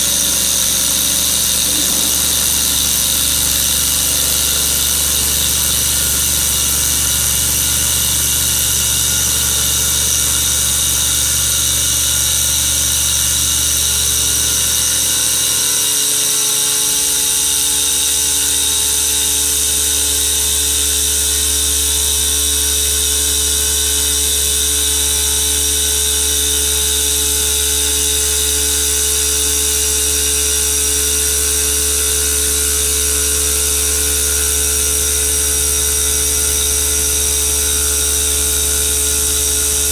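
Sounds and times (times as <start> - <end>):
spindle machine hum: 0.0 - 39.9.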